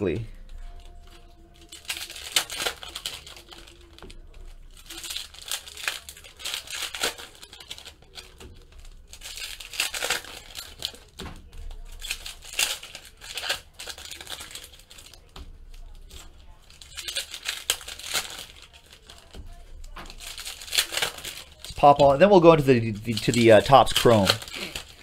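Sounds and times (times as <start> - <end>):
foil wrappers crinkling: 0.0 - 25.0.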